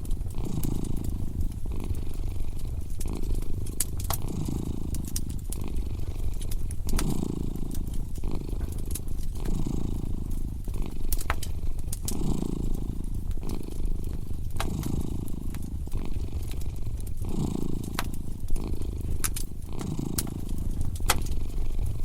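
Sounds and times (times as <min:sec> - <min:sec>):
cat purring: 0:00.0 - 0:22.0
wood fire crackling and popping: 0:00.0 - 0:22.0.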